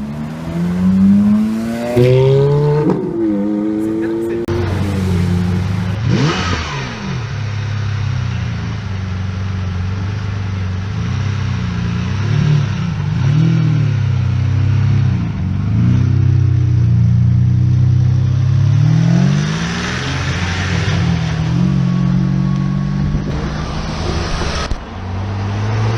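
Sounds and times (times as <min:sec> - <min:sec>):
sports car engine revving: 0:00.0 - 0:07.6, 0:08.7 - 0:25.9.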